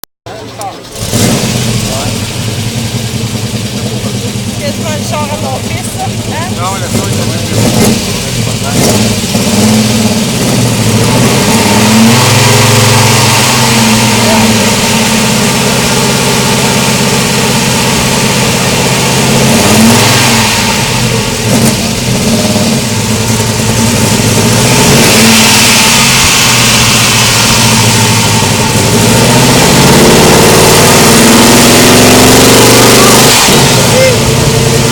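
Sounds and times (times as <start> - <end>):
old car engine revving: 0.3 - 34.9.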